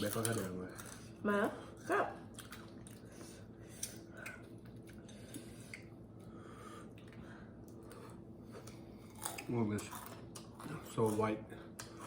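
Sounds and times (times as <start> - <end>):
faint steady hum: 0.0 - 12.0
soft chewing: 0.0 - 12.0.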